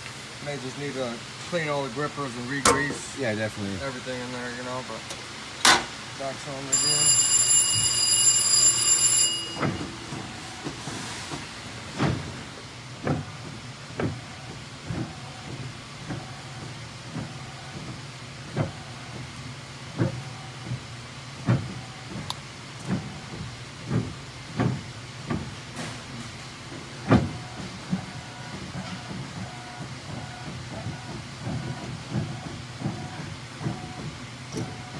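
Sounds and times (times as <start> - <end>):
printing press humming: 0.0 - 34.9.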